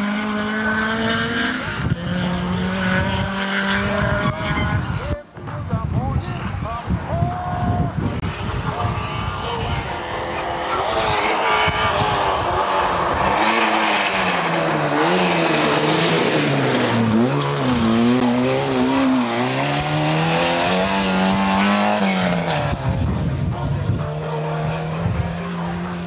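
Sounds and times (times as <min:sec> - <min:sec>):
rally car engine revving: 0:00.0 - 0:06.8, 0:08.0 - 0:26.0.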